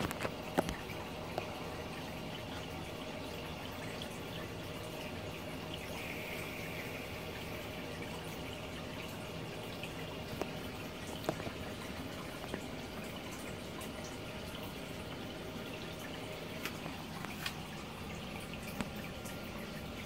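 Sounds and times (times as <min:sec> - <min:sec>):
aquarium water trickling: 0:00.0 - 0:20.0.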